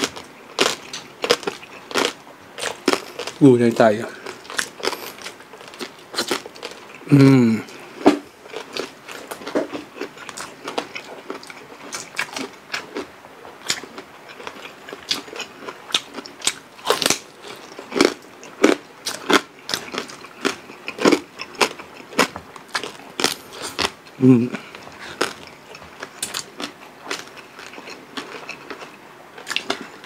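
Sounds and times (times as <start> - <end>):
crunching crispy food: 0.0 - 30.0.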